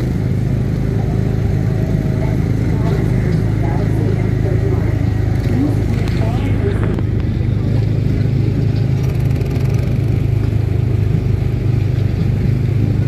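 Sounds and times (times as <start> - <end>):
small gasoline engine running: 0.0 - 13.0.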